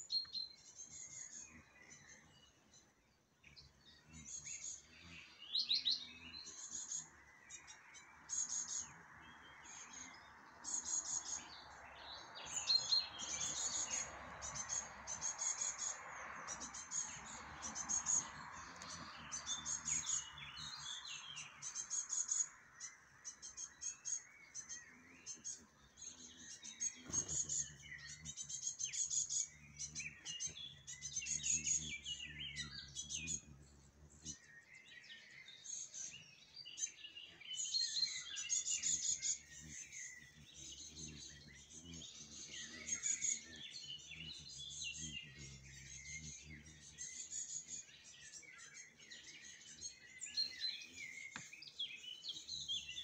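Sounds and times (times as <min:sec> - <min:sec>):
songbirds chirping and trilling: 0:00.0 - 0:53.0.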